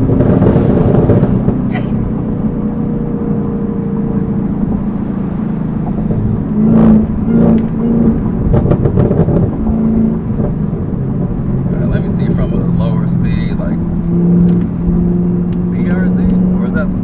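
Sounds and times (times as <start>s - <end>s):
car engine revving: 0.0s - 17.0s
exhaust pops: 0.0s - 17.0s.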